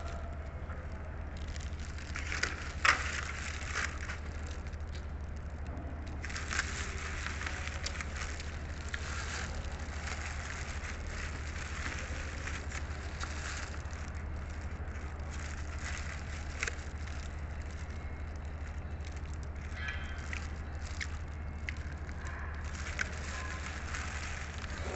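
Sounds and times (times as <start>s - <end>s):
chewing crackle: 0.0s - 24.9s.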